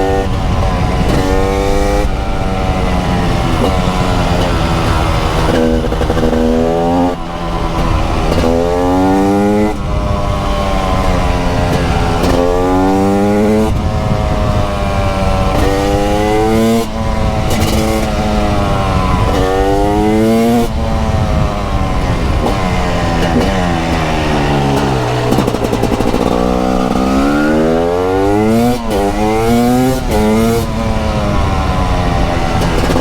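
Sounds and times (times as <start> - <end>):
two-stroke engine accelerating: 0.0 - 33.0.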